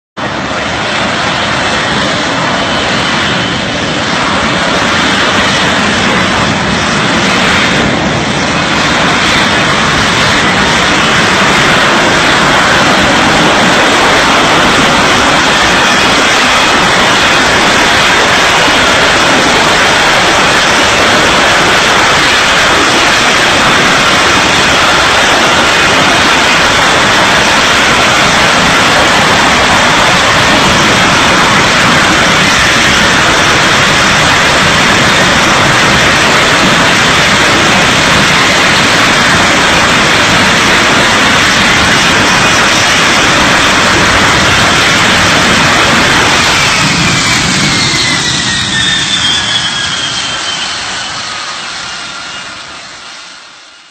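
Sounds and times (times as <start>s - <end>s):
jet engine roar: 0.0s - 53.9s.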